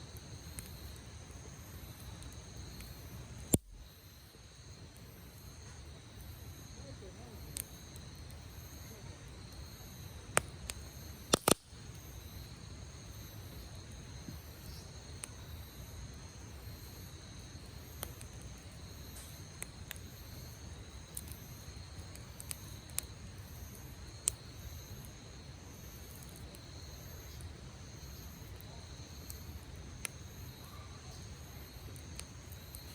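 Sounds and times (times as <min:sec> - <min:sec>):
insects chirping: 0:00.0 - 0:32.9
wood fire crackling and popping: 0:00.0 - 0:32.9.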